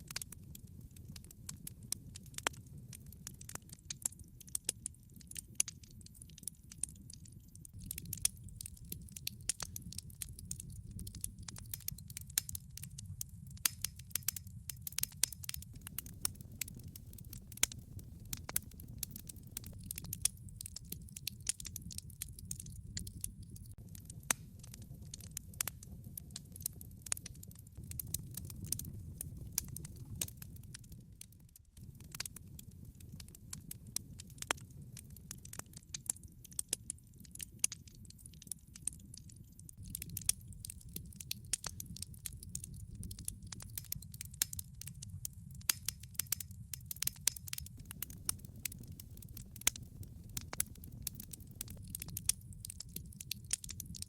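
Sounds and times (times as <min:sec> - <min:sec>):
logs crackling and popping: 0:00.0 - 0:54.0
low rumble of fire: 0:00.0 - 0:54.0.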